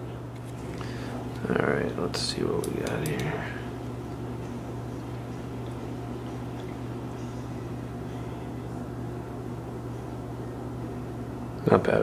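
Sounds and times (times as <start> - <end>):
low hum of room machinery: 0.0 - 12.0.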